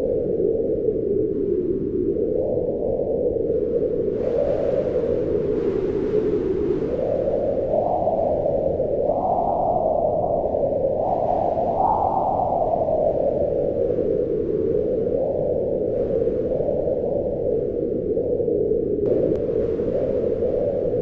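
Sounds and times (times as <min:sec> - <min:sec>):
howling storm wind: 0:00.0 - 0:21.0.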